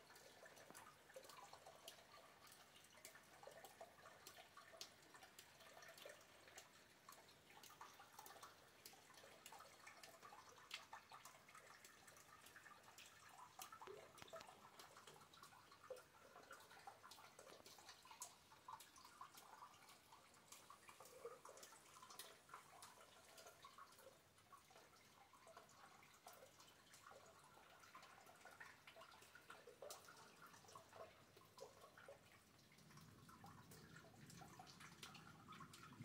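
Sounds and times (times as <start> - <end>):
light hiss of rainfall: 0.0 - 36.0
raindrops ticking on hard surfaces: 0.0 - 36.0.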